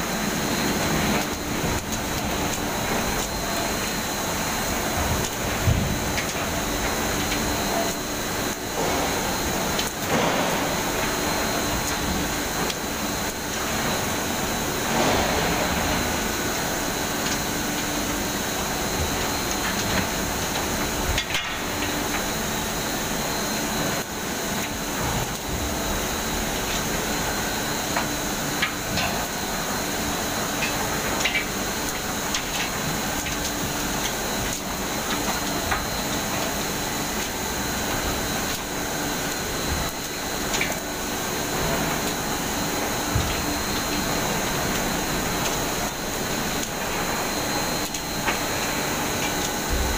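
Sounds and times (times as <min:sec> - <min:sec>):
machinery humming and whining: 0:00.0 - 0:49.9.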